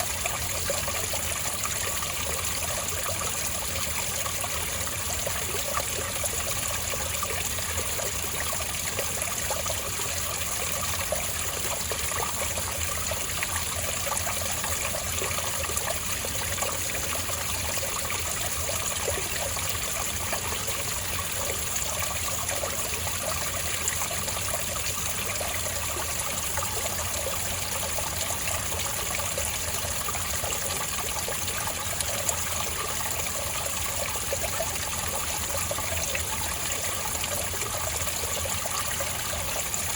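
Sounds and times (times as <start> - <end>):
spring water trickling: 0.0 - 39.9.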